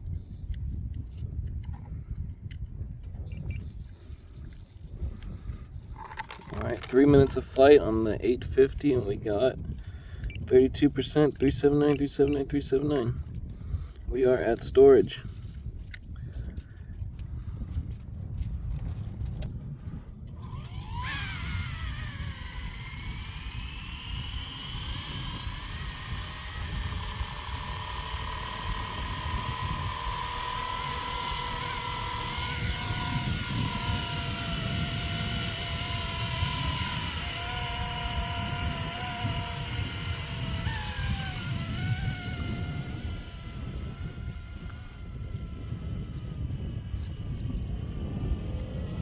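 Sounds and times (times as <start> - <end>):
electric rc helicopter whine: 0.0 - 2.0, 3.0 - 49.0
wind on microphone: 0.0 - 49.0.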